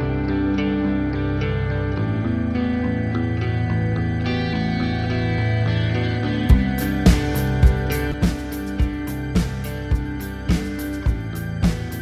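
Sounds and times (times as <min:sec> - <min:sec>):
sustained tones over steady beat: 0:00.0 - 0:12.0.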